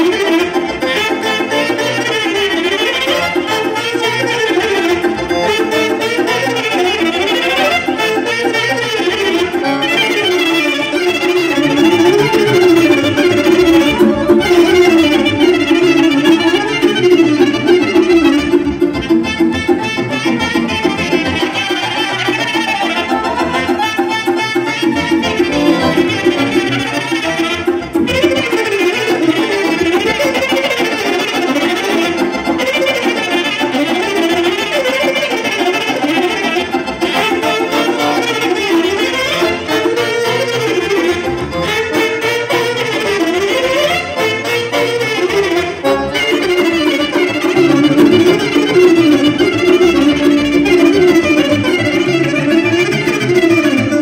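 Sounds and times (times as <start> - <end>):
accordion: 0.0 - 54.0
clarinet: 0.0 - 54.0
keyboard accompaniment: 0.0 - 54.0
violin: 0.0 - 54.0.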